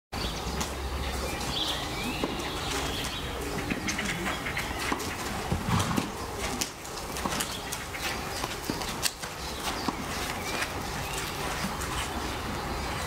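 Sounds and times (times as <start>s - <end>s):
birds chirping: 0.2s - 13.0s
horse hooves on sand: 0.2s - 13.0s.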